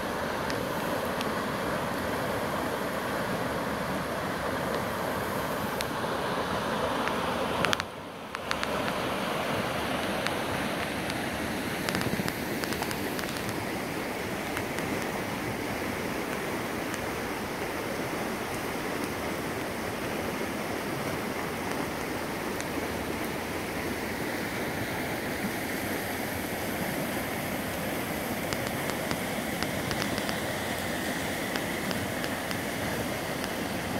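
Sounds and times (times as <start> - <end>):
floodwater rushing over rocks: 0.0 - 33.9.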